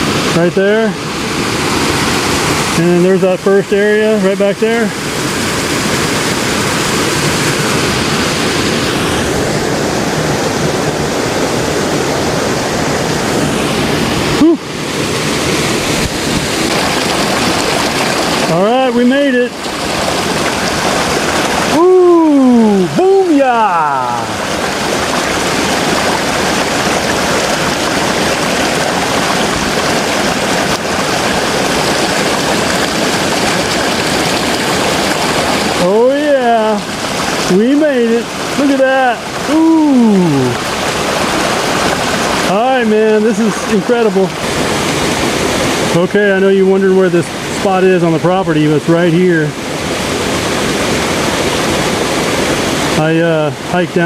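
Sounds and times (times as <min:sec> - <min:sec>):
waterfall pouring into pool: 0:00.0 - 0:54.0.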